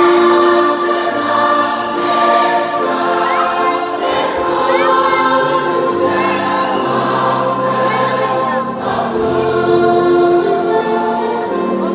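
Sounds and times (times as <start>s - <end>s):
keyboard accompaniment: 0.0s - 11.9s
mixed choir singing a hymn: 0.0s - 11.9s.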